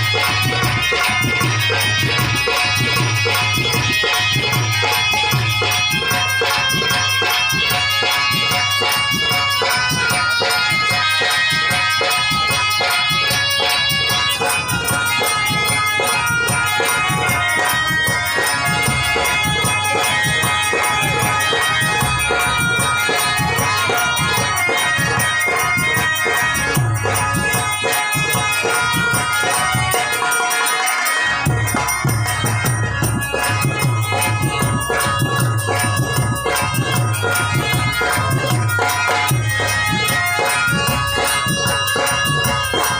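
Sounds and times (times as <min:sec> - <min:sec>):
harmonium melody: 0:00.0 - 0:42.9
rhythmic percussion: 0:00.0 - 0:42.9.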